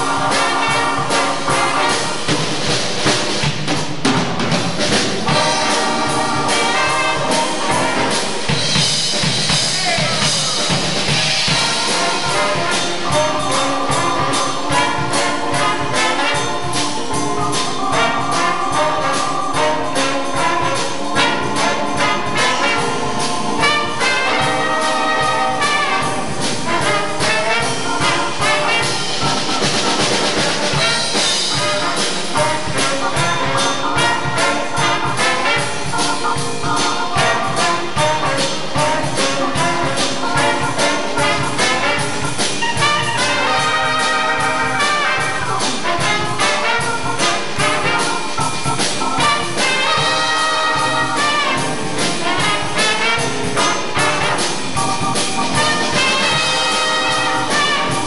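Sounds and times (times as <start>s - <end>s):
drum kit beat: 0.0s - 58.0s
jazz band horns: 0.0s - 58.0s.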